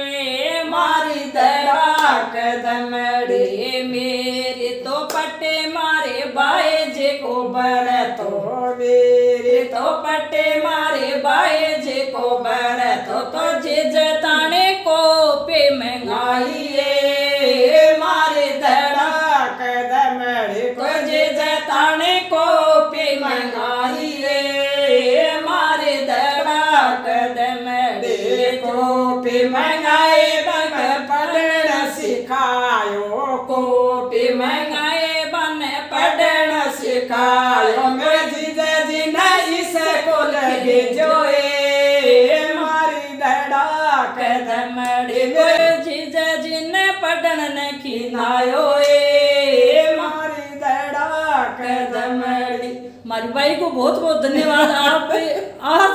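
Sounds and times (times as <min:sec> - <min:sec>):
women singing unaccompanied folk song: 0:00.0 - 0:55.9.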